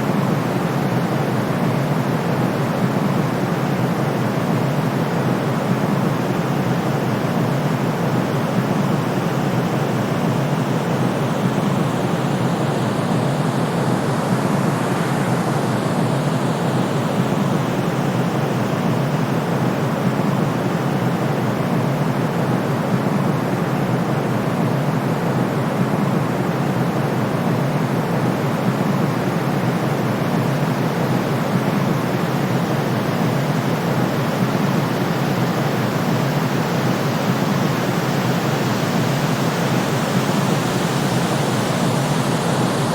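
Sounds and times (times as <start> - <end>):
steady white noise: 0.0 - 42.9.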